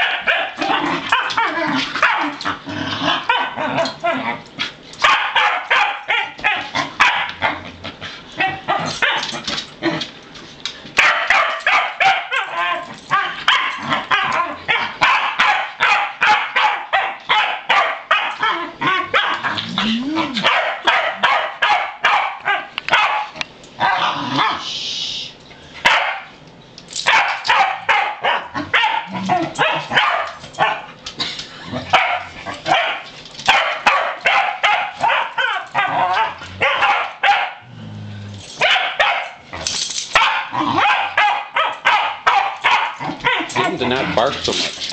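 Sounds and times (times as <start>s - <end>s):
dog barking and yipping: 0.0s - 2.4s, 3.2s - 4.3s, 5.0s - 7.6s, 8.4s - 9.4s, 11.0s - 19.6s, 20.3s - 24.6s, 25.8s - 26.3s, 27.0s - 31.0s, 31.9s - 37.6s, 38.6s - 44.8s.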